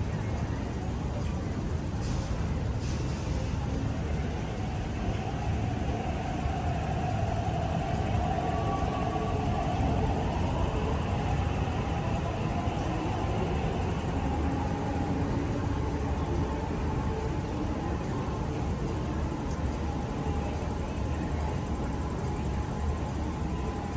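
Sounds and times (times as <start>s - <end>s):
train wheels rumbling: 0.0s - 23.9s.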